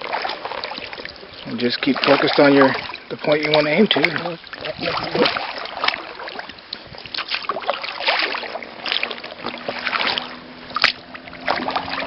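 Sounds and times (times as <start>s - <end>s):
paddle splashing in water: 0.0s - 12.0s.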